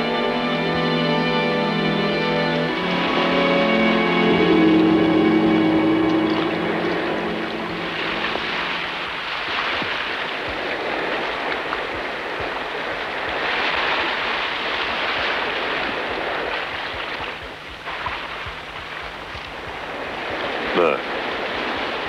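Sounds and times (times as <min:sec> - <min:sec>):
surf washing on rocky shore: 0:02.7 - 0:22.0.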